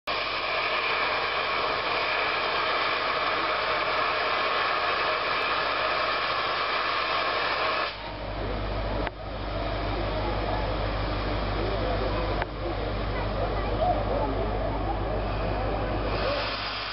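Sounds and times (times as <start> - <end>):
steam locomotive venting steam: 0.1 - 16.9.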